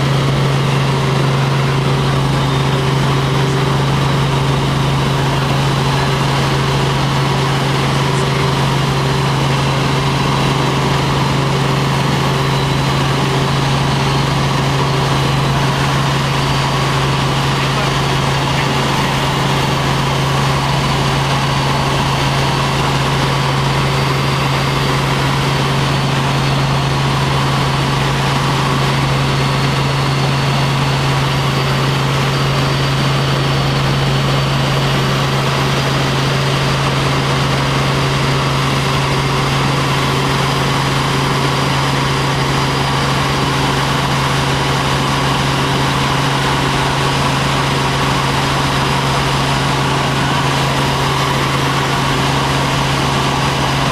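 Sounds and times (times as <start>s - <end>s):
helicopter engine and rotor drone: 0.0s - 53.9s
high whine: 0.0s - 53.9s.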